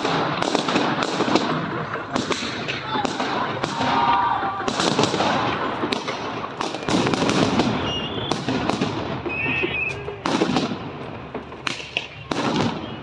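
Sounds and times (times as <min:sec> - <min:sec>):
rifle shots echoing: 0:00.0 - 0:12.9.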